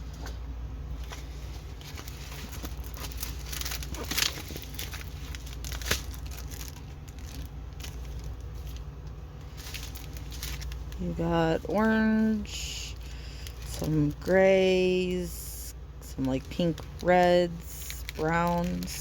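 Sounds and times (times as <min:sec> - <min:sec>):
plastic packaging crinkling: 0:00.9 - 0:19.0.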